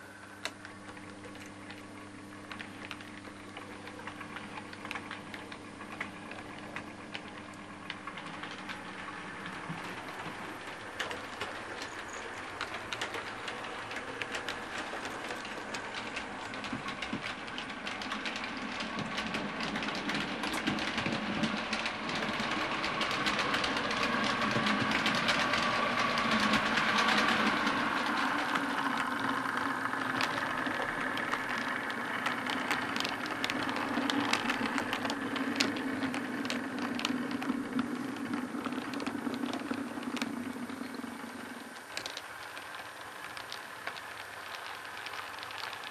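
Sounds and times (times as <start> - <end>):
model train wheels clicking: 0.0 - 45.9.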